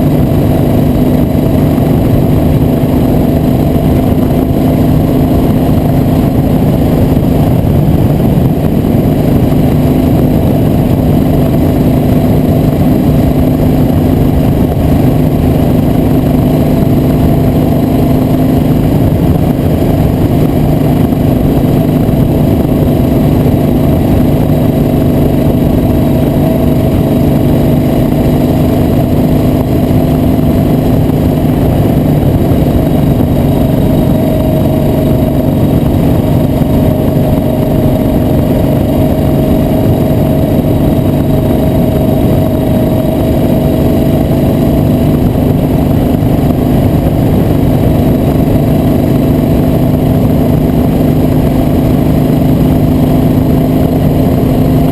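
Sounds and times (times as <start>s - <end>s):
heavy low rumble: 0.0s - 54.9s
vehicle engine running: 0.0s - 54.9s.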